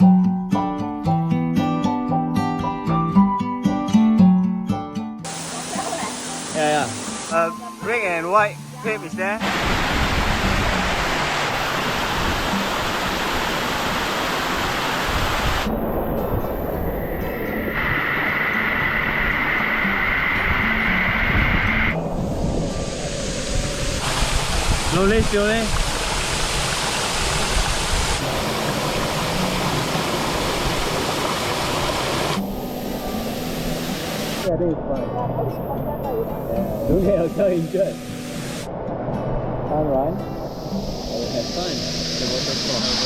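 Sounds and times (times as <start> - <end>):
rushing water: 5.3 - 43.0.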